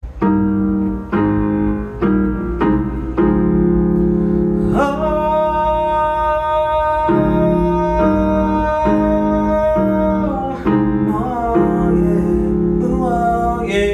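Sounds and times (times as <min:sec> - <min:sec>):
piano chords: 0:00.0 - 0:13.9.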